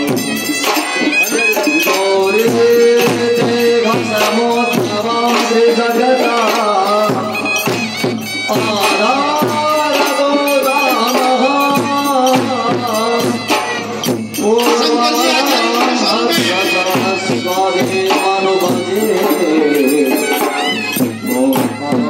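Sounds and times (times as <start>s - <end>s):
drum with pitch-bending strokes: 0.0s - 22.0s
held melodic notes: 0.0s - 22.0s.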